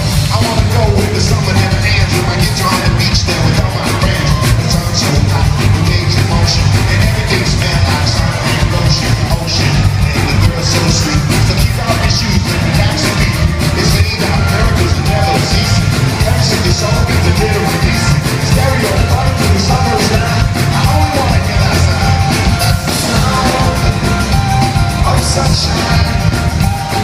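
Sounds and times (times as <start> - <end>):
live band playing loud music: 0.0 - 27.0.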